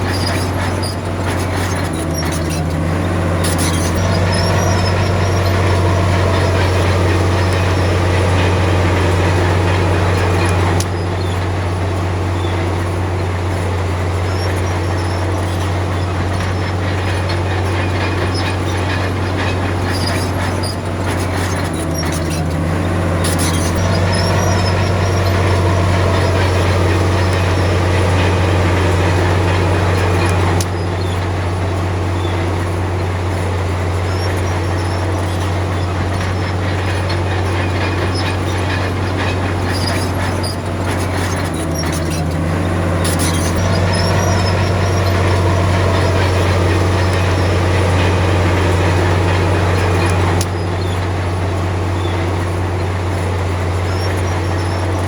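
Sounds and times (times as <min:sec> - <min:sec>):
bulldozer diesel engine: 0:00.0 - 0:55.0
steel tracks clanking and squeaking: 0:00.0 - 0:55.0.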